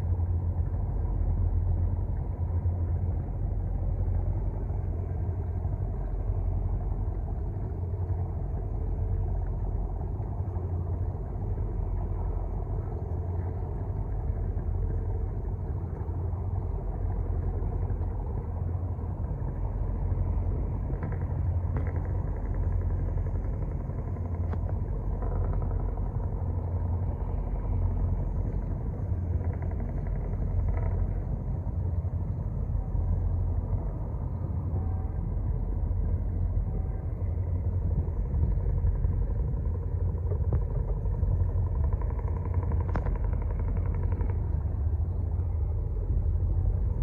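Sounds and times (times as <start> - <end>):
ship engine rumbling: 0.0 - 47.0.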